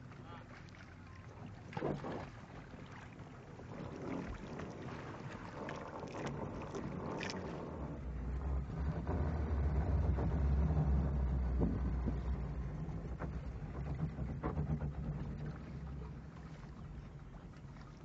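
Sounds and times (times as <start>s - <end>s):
boat engine running: 0.0s - 18.0s
water: 0.0s - 18.0s
wind: 0.0s - 18.0s.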